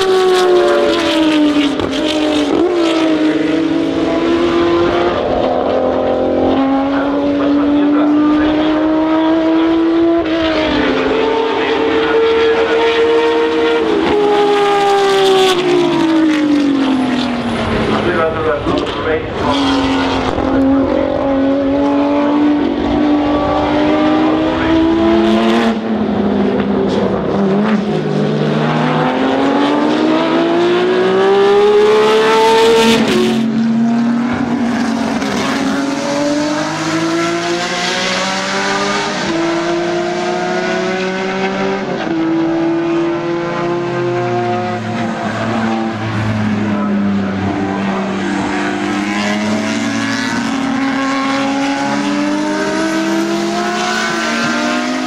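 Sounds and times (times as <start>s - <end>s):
racing car engines: 0.0s - 55.0s.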